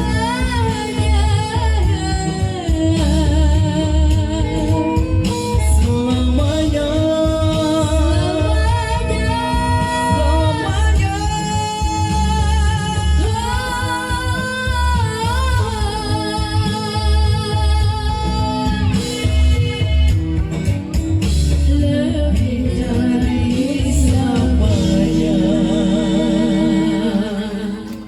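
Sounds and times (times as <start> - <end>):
guitar: 0.0 - 28.0
steady bass beat: 0.0 - 28.0.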